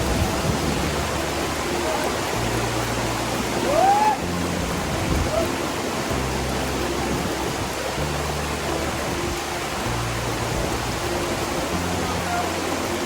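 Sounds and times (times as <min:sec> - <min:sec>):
background music with bass: 0:00.0 - 0:13.0
waterfall roaring: 0:00.0 - 0:13.0.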